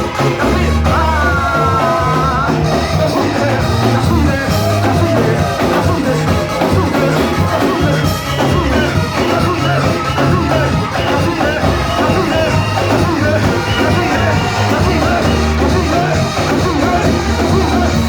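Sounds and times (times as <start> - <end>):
church worship band music: 0.0 - 18.0.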